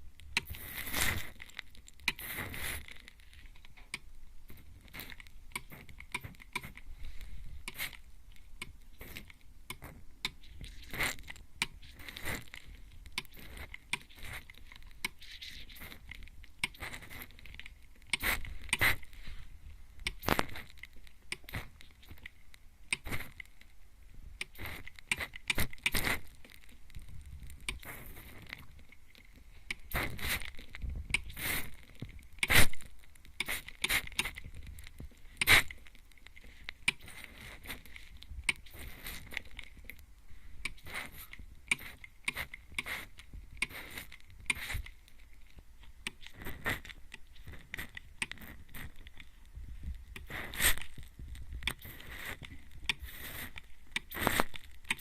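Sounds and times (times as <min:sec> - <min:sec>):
light crackling and patter: 0:00.0 - 0:55.0.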